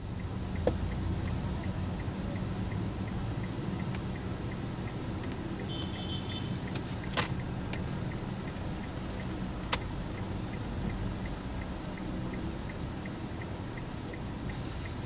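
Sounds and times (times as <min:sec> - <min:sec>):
car engine hum: 0:00.0 - 0:15.0
road noise inside car: 0:00.0 - 0:15.0
sharp clicks inside car: 0:00.1 - 0:15.0.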